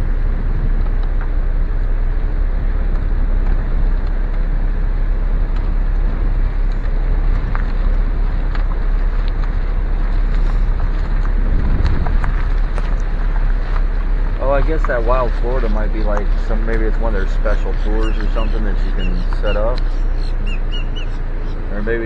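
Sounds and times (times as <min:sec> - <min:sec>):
car road noise rumble: 0:00.0 - 0:22.0
wind on microphone: 0:00.0 - 0:22.0.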